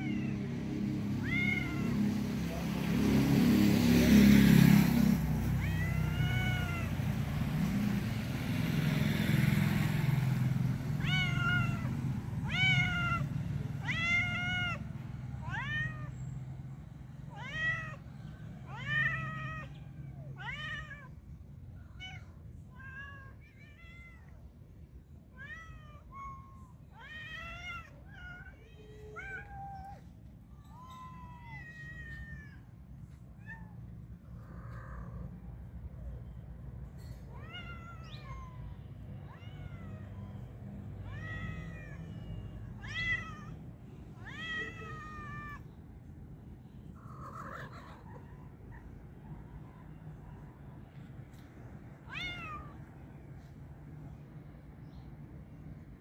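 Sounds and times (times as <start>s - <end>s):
cats meowing: 0.0s - 3.1s, 5.4s - 7.8s, 10.6s - 54.3s.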